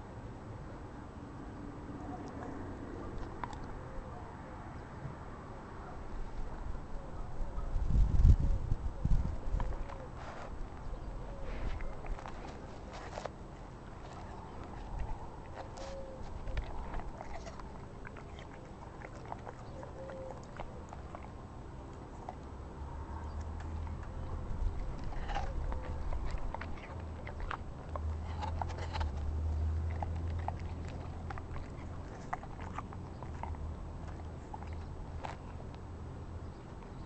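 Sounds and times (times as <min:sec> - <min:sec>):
dog chewing an apple: 0:02.1 - 0:03.8, 0:09.0 - 0:37.0.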